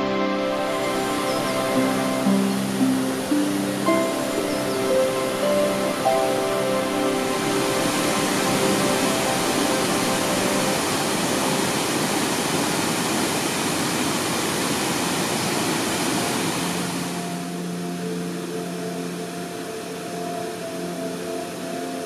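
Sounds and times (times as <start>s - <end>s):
soft background music: 0.0s - 13.1s, 16.6s - 22.0s
waterfall rushing: 0.0s - 18.5s.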